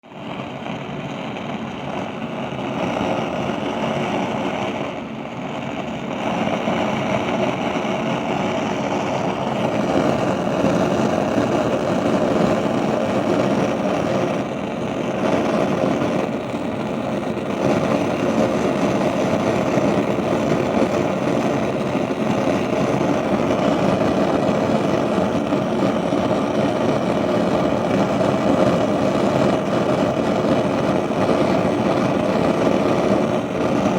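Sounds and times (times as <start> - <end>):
gas burner flames rushing: 0.0 - 33.9.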